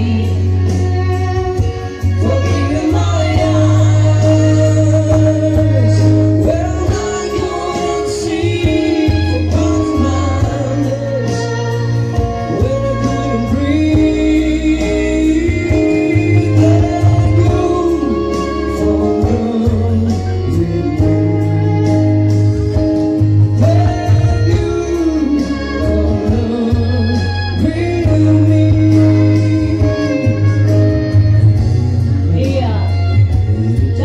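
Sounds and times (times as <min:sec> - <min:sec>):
electronic keyboard bass line: 0:00.0 - 0:34.0
man singing into microphone: 0:00.0 - 0:34.0
violin: 0:00.0 - 0:34.0.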